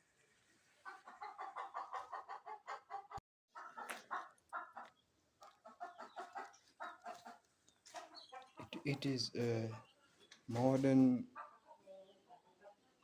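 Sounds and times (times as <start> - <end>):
chickens clucking: 0.6 - 13.0.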